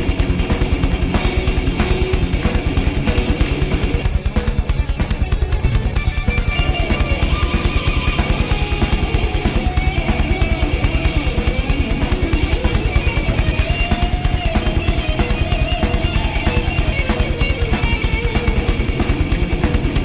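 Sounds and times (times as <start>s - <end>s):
distorted electric guitar: 0.0s - 20.0s
rapid kick drum: 0.0s - 20.0s.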